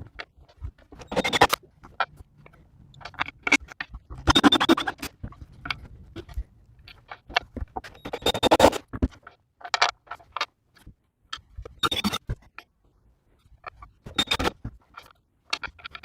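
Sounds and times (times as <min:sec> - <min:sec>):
hand scraping and knocking: 0:00.0 - 0:16.0.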